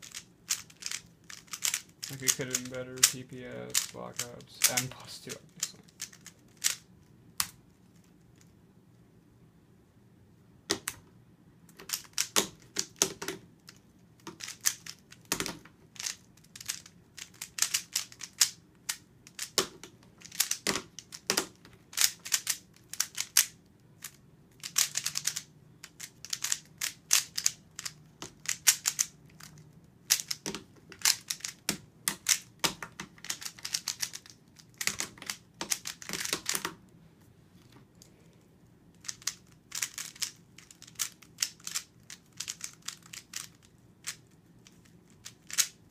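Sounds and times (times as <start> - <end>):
speedcube clicking as layers turn: 0.0 - 8.4, 11.7 - 36.8, 38.9 - 45.9.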